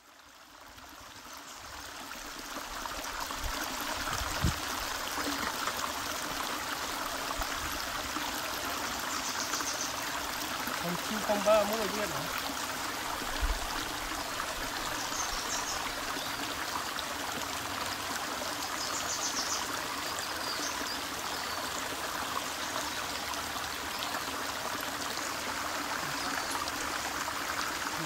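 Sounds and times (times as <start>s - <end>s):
stream flowing over rock: 0.0s - 28.0s.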